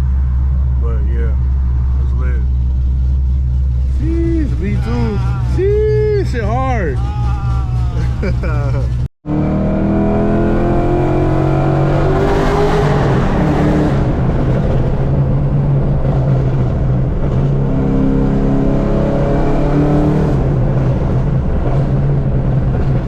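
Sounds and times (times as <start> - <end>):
car engine and exhaust accelerating: 0.0 - 23.0.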